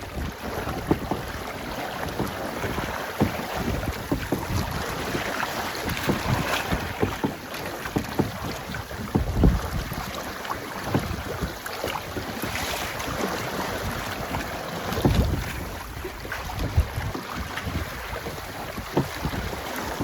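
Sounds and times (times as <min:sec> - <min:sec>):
water splashing against hull: 0:00.0 - 0:20.0
wind buffeting microphone: 0:00.0 - 0:20.0.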